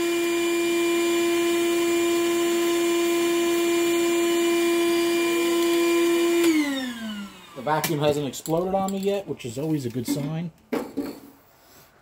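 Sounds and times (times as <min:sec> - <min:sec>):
shop vac whining: 0:00.0 - 0:11.3.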